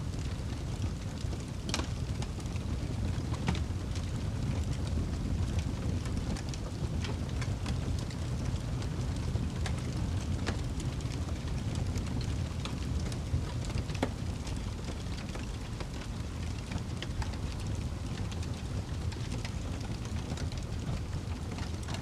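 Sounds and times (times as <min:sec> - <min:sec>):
fire crackling in fireplace: 0:00.0 - 0:22.0.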